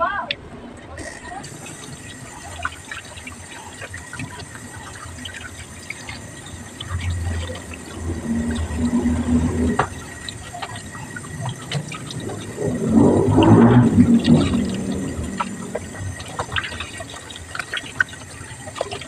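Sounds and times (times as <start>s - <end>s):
low hum: 0.5s - 19.0s
tap water running into metal basin: 0.9s - 19.0s
splashing while washing fish: 1.0s - 19.0s.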